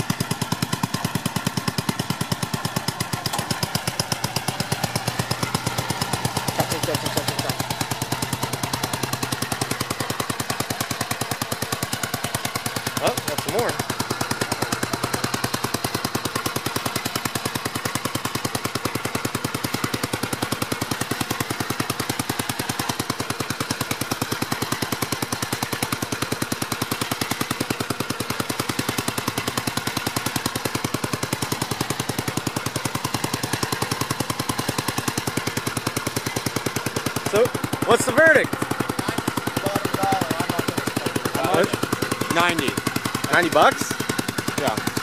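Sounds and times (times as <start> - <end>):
single-cylinder engine chattering: 0.0 - 45.0.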